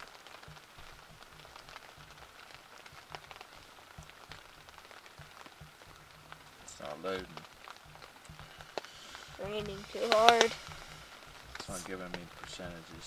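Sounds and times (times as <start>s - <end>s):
heavy rain on fabric blind: 0.0s - 13.0s.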